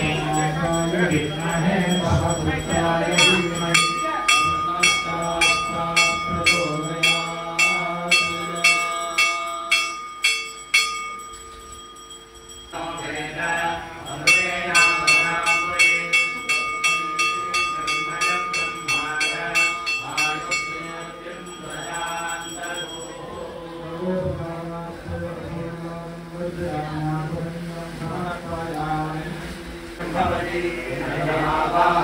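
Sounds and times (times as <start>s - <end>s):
temple bell ringing: 0.0s - 28.4s
voices chanting: 0.0s - 32.0s.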